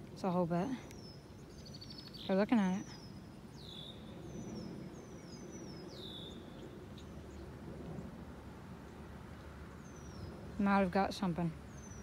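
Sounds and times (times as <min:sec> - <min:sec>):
faint low rumble: 0:00.0 - 0:12.0
bird chirping: 0:00.6 - 0:08.2, 0:08.8 - 0:12.0.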